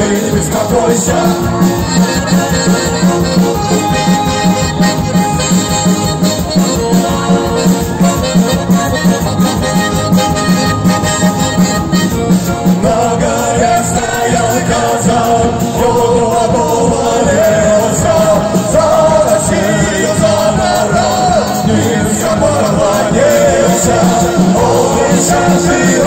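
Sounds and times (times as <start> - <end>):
live band playing folk song: 0.0 - 26.0
voices singing: 0.0 - 26.0.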